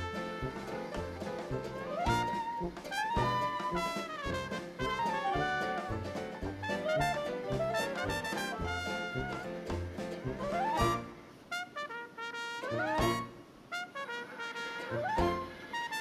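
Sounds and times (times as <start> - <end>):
jazz music with brass and bass: 0.0 - 16.0.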